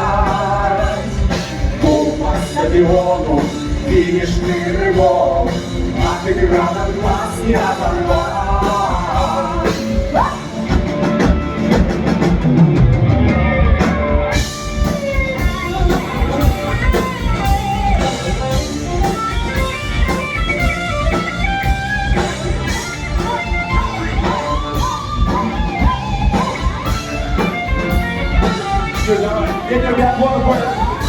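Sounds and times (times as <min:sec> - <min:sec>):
bass guitar: 0:00.0 - 0:31.0
guitar melody: 0:00.0 - 0:31.0
steady drum beat: 0:00.0 - 0:31.0.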